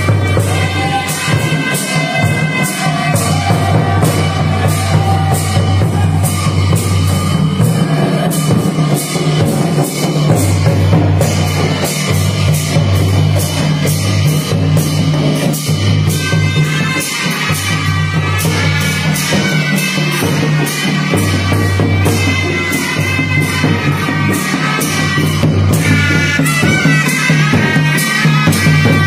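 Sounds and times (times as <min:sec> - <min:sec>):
drum beaten with a stick: 0:00.0 - 0:29.0
wind instrument melody: 0:00.0 - 0:29.0.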